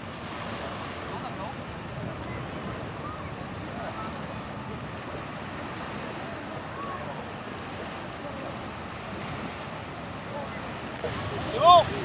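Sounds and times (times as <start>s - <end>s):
sea waves on the shore: 0.0s - 12.0s
wind on the microphone: 0.0s - 12.0s.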